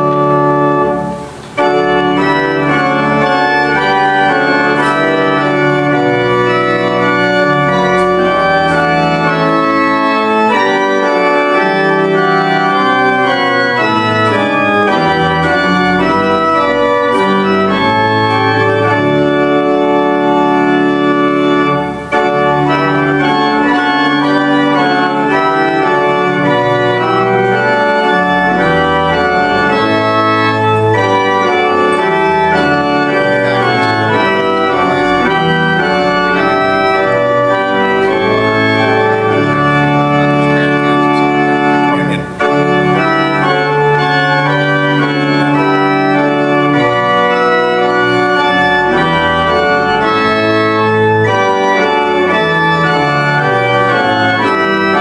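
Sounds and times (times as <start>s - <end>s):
pipe organ playing a hymn: 0.0s - 55.0s.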